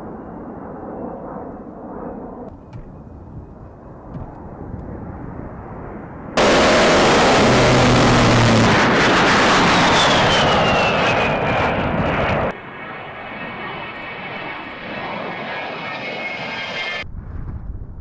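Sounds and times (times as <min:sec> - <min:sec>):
jet passing with whine: 0:00.0 - 0:17.1
faint jet noise: 0:00.0 - 0:17.2.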